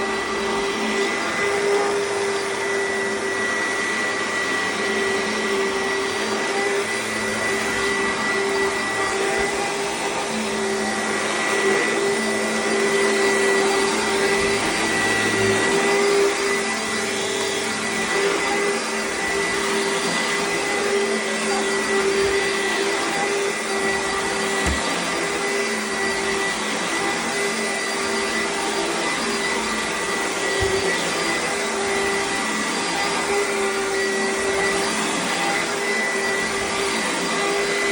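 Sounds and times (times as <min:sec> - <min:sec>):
upright vacuum cleaner running: 0:00.0 - 0:37.9.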